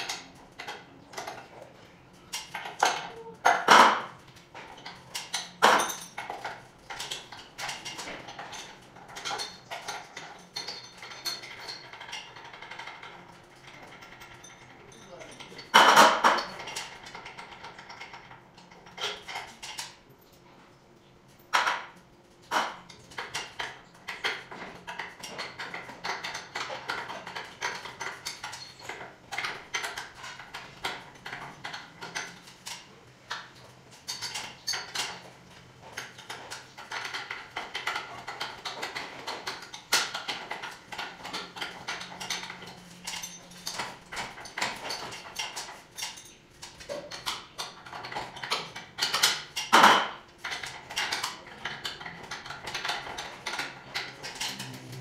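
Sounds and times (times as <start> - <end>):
metallic clinks and clanks of tools: 0.0 - 20.4, 21.3 - 55.0.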